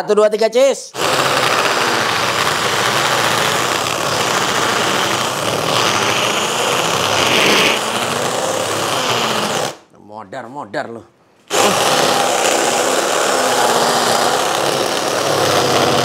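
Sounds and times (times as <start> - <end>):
impact drill drilling into concrete: 1.0 - 9.8, 11.5 - 16.0.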